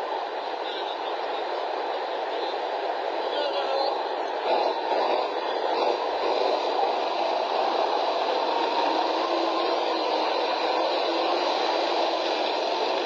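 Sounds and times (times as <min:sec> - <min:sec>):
tank engine and tracks running: 0:00.0 - 0:13.0.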